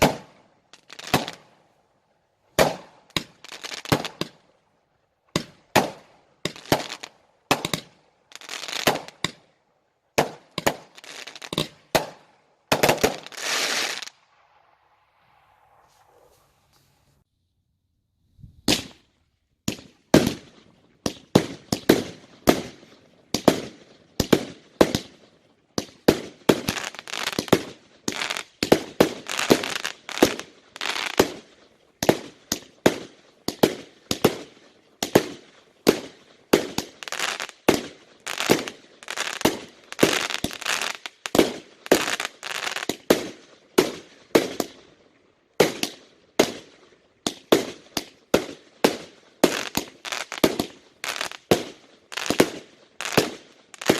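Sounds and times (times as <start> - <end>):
fireworks bangs with crackle: 0.0 - 1.5, 2.6 - 4.4, 5.3 - 9.4, 10.2 - 14.2, 19.6 - 25.2, 25.8 - 44.8, 45.6 - 53.9.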